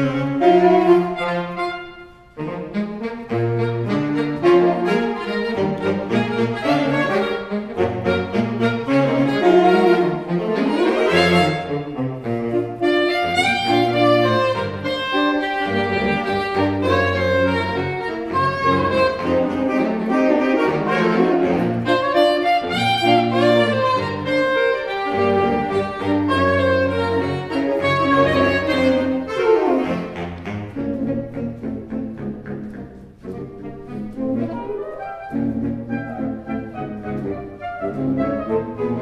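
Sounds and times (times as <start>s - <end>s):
saxophone ensemble playing jazz: 0.0s - 39.0s.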